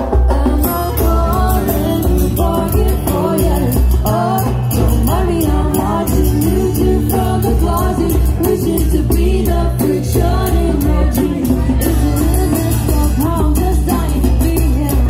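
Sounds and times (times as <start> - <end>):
acoustic guitar strumming: 0.0 - 15.0
man singing: 0.5 - 15.0.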